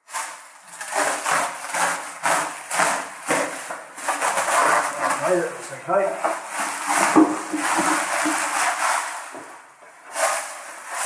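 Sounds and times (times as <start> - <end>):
plastic wrapping crackling: 0.0 - 11.0.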